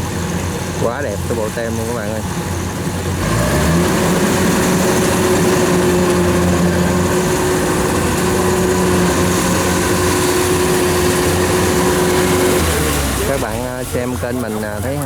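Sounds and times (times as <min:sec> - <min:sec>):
diesel engine running: 0:00.0 - 0:15.0
steady engine whine: 0:00.0 - 0:15.0.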